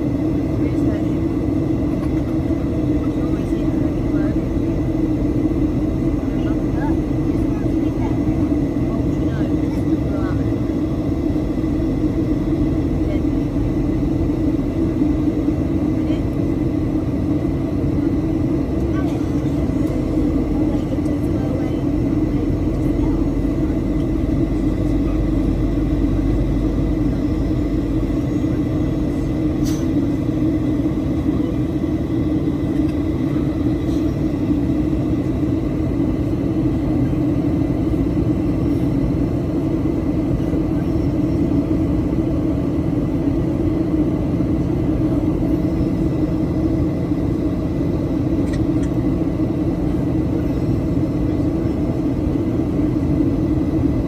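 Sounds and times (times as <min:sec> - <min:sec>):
jet engine cabin drone: 0:00.0 - 0:54.0.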